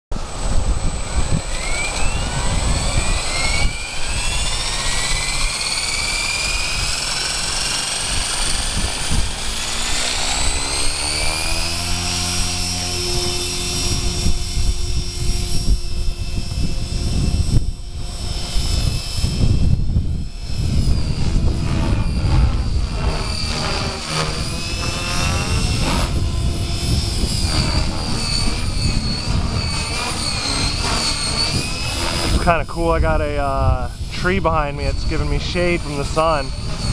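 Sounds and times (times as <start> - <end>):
rc helicopter motor whine: 0.1 - 36.9.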